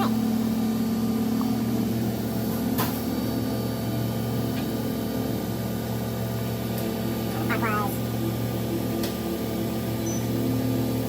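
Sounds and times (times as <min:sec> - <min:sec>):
machining center mechanical hum: 0:00.0 - 0:11.0.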